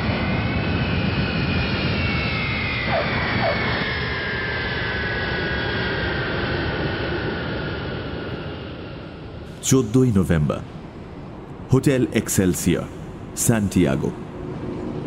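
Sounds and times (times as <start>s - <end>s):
jet engine drone with whine: 0.0s - 15.0s.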